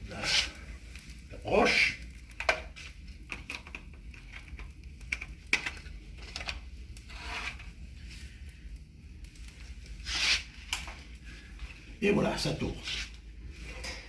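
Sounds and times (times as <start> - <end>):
fire crackling and popping: 0.0 - 14.0
low steady hum: 0.0 - 14.0.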